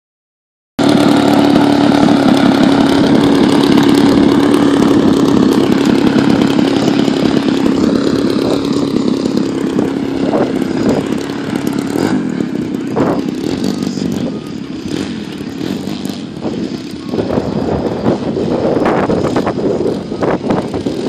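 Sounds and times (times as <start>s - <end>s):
model plane gas engine running: 0.8s - 21.0s.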